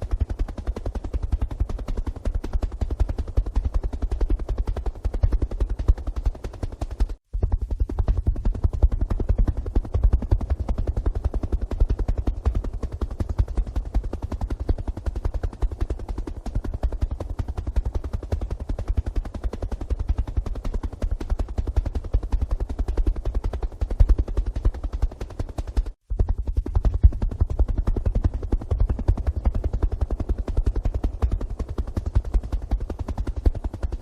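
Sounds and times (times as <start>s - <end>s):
helicopter rotor chopping: 0.0s - 34.0s.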